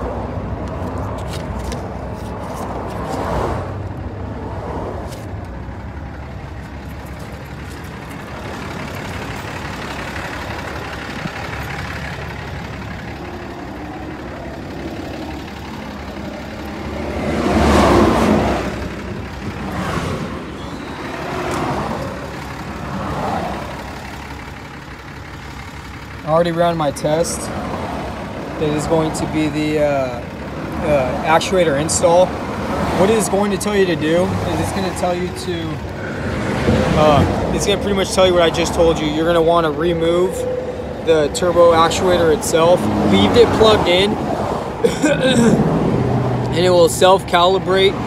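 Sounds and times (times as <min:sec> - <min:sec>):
vehicle engine: 0:00.0 - 0:48.0.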